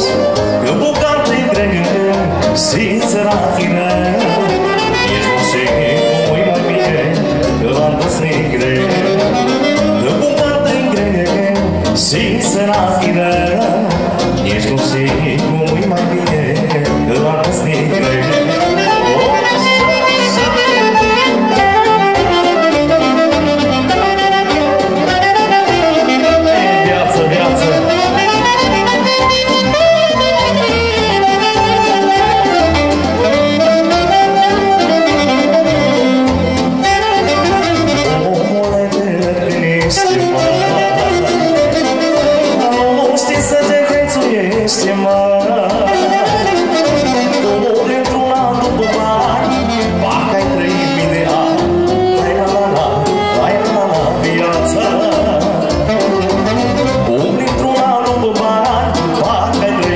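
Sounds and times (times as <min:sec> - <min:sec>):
saxophone melody: 0:00.0 - 0:14.4, 0:16.9 - 0:44.3, 0:45.5 - 0:58.0
live band music: 0:00.0 - 0:59.9
man singing: 0:00.0 - 0:59.9
violin: 0:00.0 - 0:59.9.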